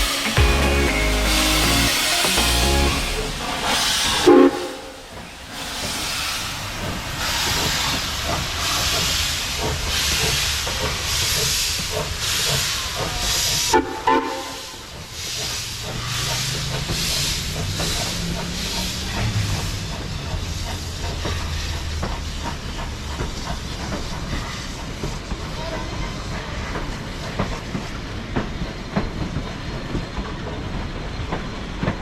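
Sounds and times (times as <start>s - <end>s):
hissing steam: 0.0s - 31.9s
steam locomotive chuffing: 0.0s - 32.0s.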